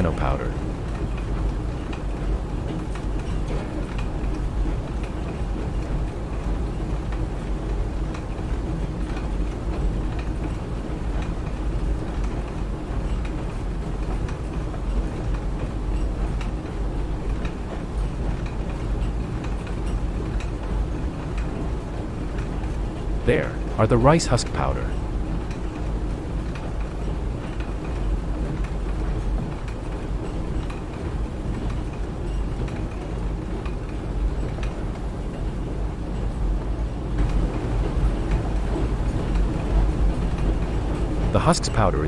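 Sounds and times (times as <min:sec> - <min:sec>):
factory machinery rumbling: 0:00.0 - 0:42.0.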